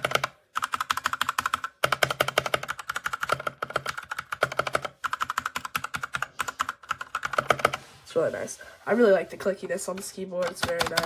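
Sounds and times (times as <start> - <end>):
fast typing on mechanical keyboard: 0.0 - 7.8, 9.8 - 11.0.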